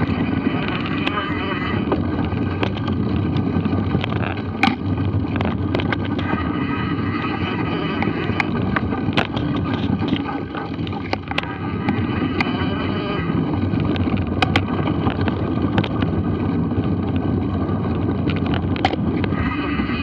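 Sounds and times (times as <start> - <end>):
bike clicks and rattles: 0.0 - 6.5, 7.1 - 12.7, 13.4 - 20.0
wind rumble on microphone: 0.0 - 20.0.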